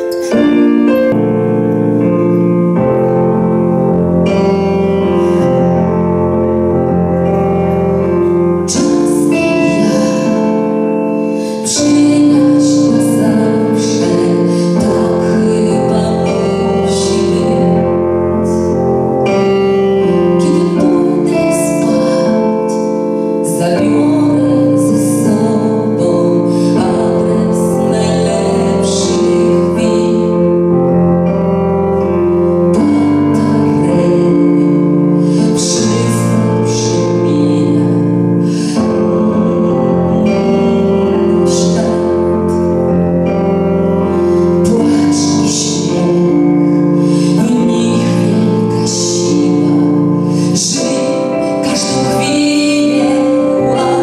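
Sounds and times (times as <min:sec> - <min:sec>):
piano accompaniment: 0:00.0 - 0:54.0
woman singing into a microphone: 0:04.0 - 0:54.0.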